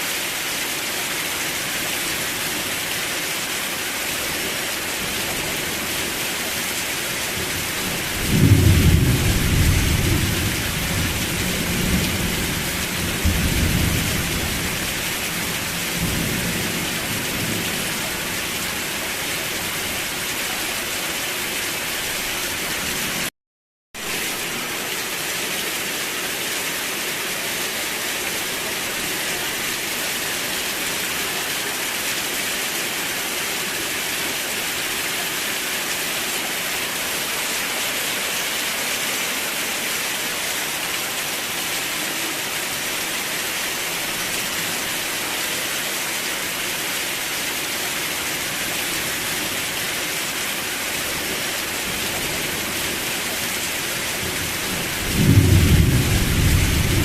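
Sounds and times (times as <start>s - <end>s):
steady rain falling: 0.0s - 23.3s, 24.0s - 57.0s.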